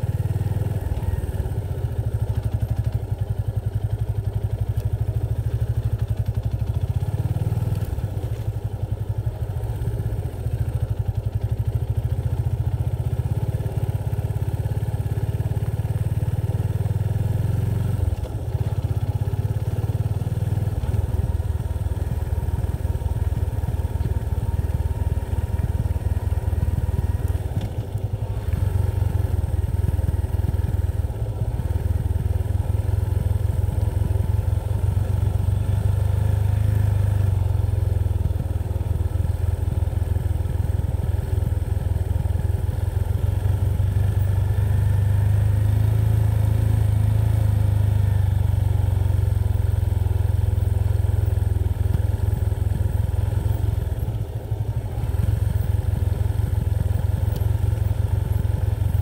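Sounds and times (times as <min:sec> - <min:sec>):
vehicle rumble: 0:00.0 - 0:59.0.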